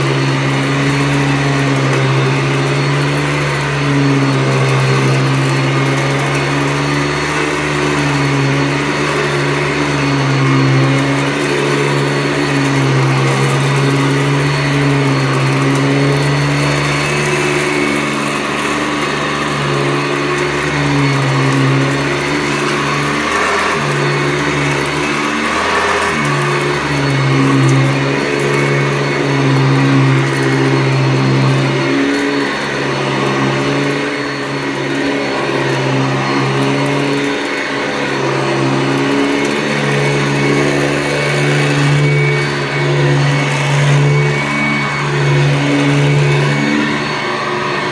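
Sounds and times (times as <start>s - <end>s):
vacuum cleaner motor hum: 0.0s - 47.9s.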